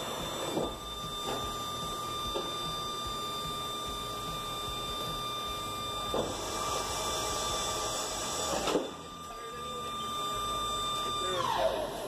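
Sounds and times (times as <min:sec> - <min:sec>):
hydraulic hiss: 0:00.0 - 0:12.0
steady engine hum: 0:00.0 - 0:12.0.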